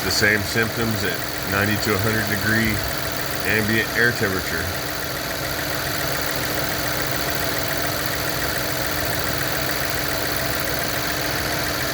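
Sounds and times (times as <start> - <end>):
air conditioning running: 0.0 - 9.6
car engine idling: 0.0 - 11.9.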